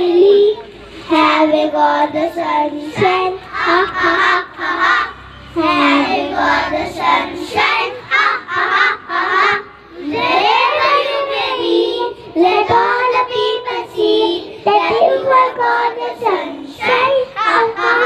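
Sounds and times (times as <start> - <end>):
children singing in chorus: 0.0 - 18.0.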